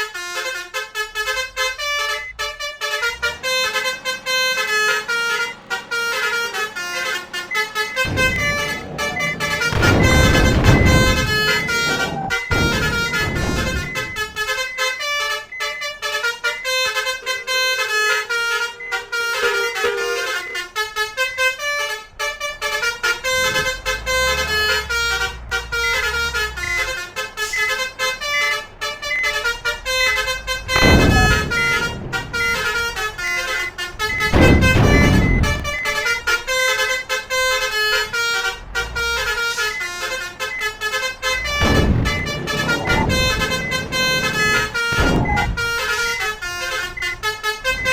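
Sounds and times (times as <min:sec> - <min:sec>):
low engine rumble: 0:00.0 - 0:47.9
musical air horn tune: 0:00.0 - 0:47.9.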